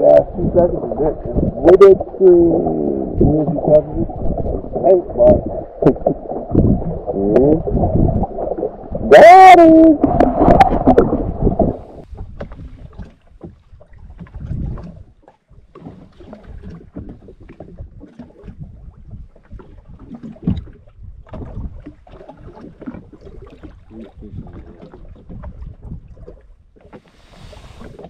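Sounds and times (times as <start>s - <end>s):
wind and water rumble: 0.0s - 28.0s.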